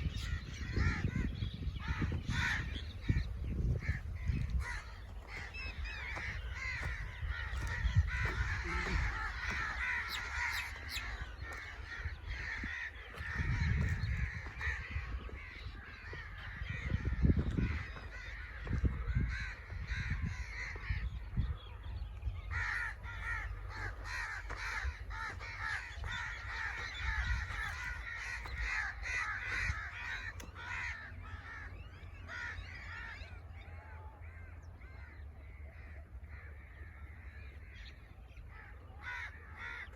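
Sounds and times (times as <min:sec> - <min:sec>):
crows cawing: 0:00.0 - 0:39.9.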